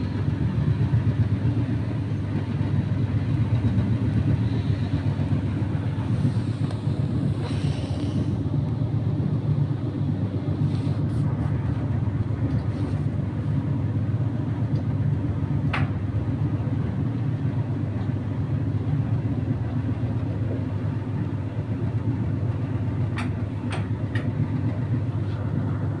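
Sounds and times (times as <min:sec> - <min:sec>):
tumble dryer rumbling: 0:00.0 - 0:26.0.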